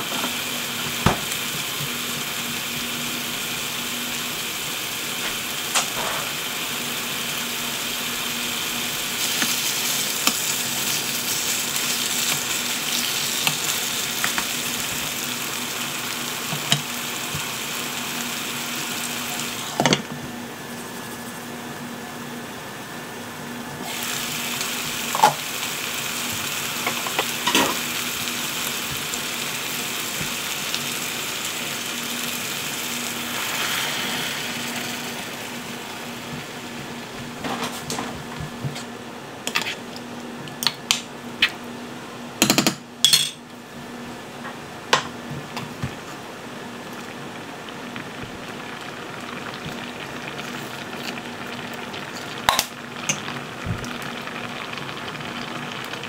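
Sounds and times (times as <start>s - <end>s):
food sizzling in a frying pan: 0.0s - 21.6s, 23.8s - 39.7s, 45.5s - 56.0s.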